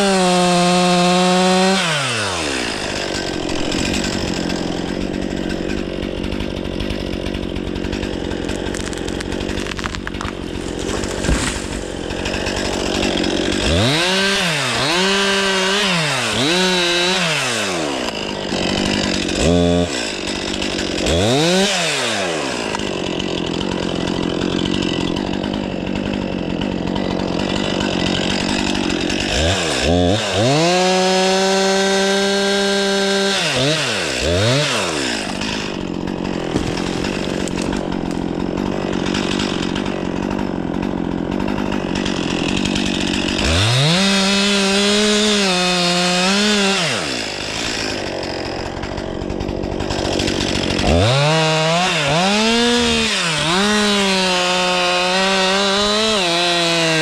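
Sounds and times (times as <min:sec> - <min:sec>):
chainsaw revving and idling: 0:00.0 - 0:57.0.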